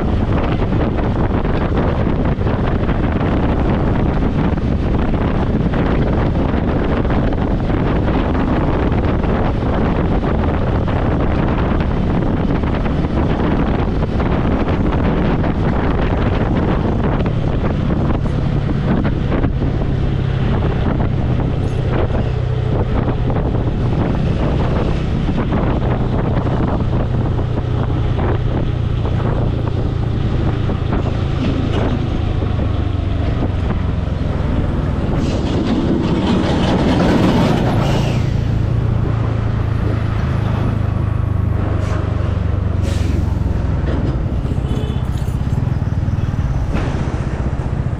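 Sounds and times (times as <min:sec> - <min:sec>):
motorcycle engine cruising: 0:00.0 - 0:47.9
passing traffic: 0:00.0 - 0:47.9
wind buffeting microphone: 0:00.0 - 0:47.9.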